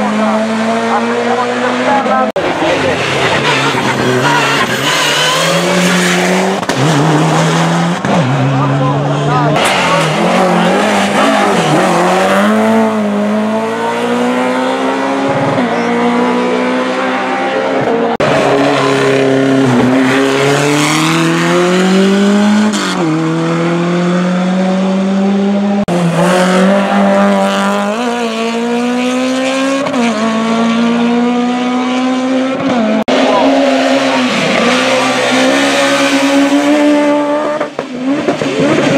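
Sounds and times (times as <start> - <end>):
racing car engines at full throttle: 0.0 - 38.9.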